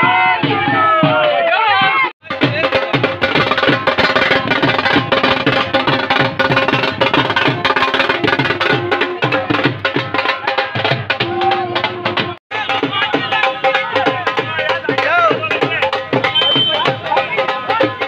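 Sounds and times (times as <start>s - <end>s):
fast drumming with sticks: 0.0s - 18.0s.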